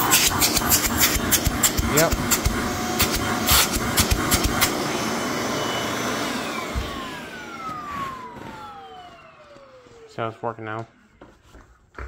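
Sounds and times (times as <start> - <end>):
vacuum cleaner running: 0.0 - 11.4.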